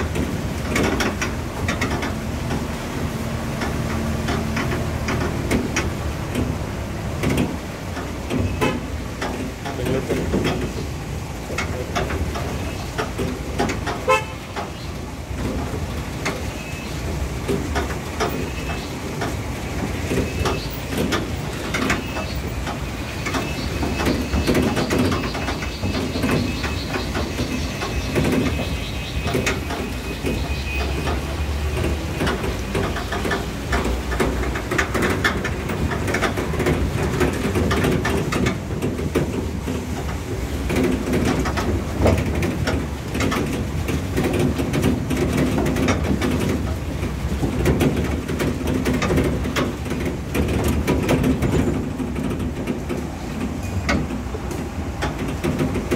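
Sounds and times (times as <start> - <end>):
knocks and rattles: 0.0 - 55.9
vehicle engine and road rumble: 0.0 - 55.9.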